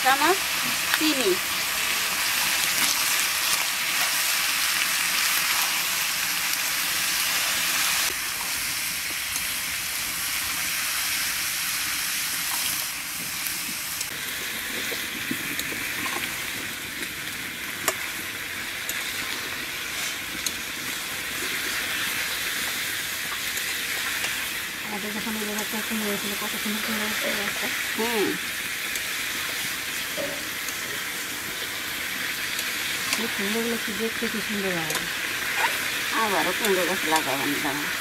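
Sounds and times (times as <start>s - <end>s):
pumpkin sizzling in oil: 0.0s - 38.0s.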